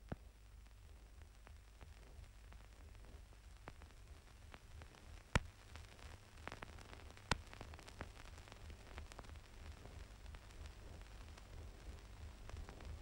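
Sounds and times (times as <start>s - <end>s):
low hum and hiss: 0.0s - 13.0s
record crackles: 0.0s - 13.0s.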